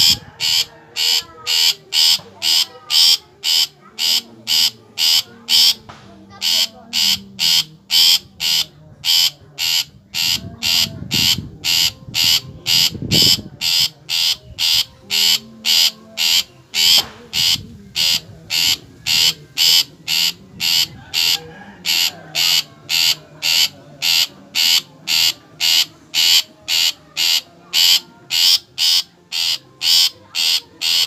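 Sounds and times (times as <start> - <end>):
bird harsh rasping call: 0.0 - 31.0.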